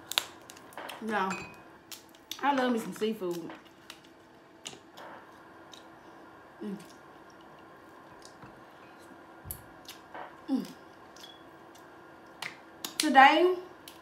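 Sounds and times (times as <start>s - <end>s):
low hums: 0.0s - 14.0s.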